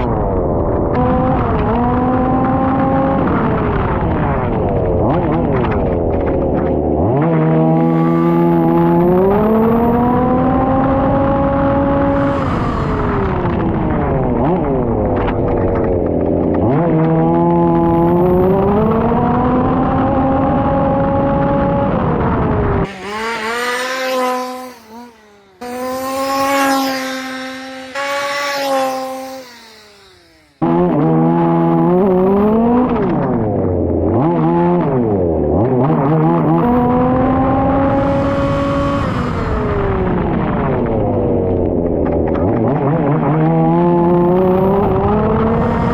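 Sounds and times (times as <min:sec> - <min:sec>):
small two-stroke engine revving: 0:00.8 - 0:45.9.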